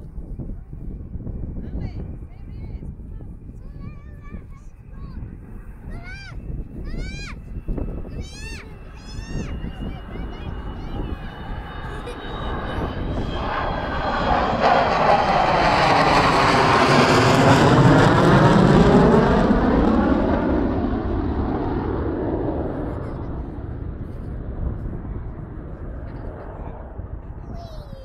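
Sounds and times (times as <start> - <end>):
jet aircraft flypast roar: 0.1 - 28.0.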